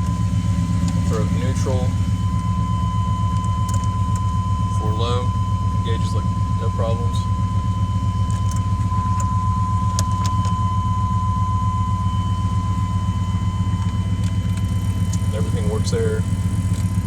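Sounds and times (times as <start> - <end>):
high-pitched tone: 0.0 - 17.0
truck engine idling: 0.0 - 17.0.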